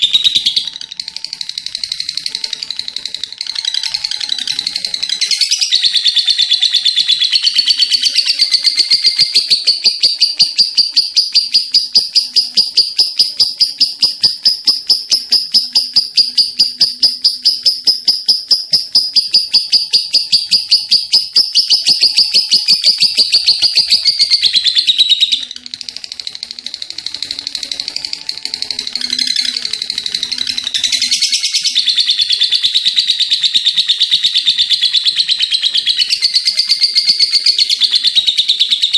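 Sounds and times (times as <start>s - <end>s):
lovebird trilling: 0.0s - 38.9s.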